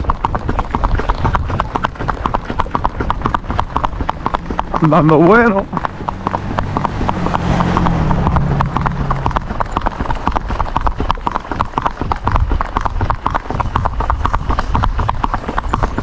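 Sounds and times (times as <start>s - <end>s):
horse hooves clip-clop on asphalt: 0.0s - 16.0s.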